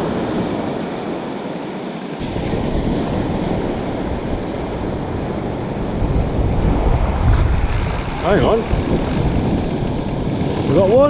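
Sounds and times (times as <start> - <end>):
ocean surf on a beach: 0.0 - 11.0
wind buffeting microphone: 0.0 - 11.0.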